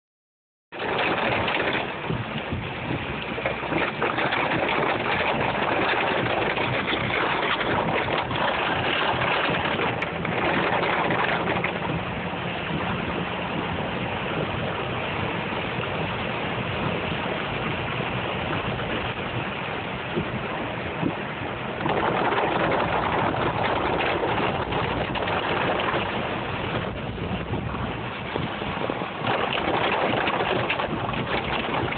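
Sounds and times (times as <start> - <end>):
car engine and tyres on wet road: 0.7 - 31.9
heavy rain on car: 0.7 - 31.9.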